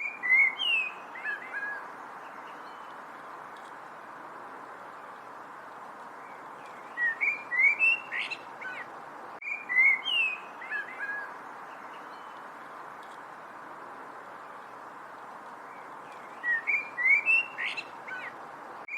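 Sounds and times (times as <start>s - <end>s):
songbird singing: 0.0s - 18.9s
steady background hiss: 0.0s - 18.9s.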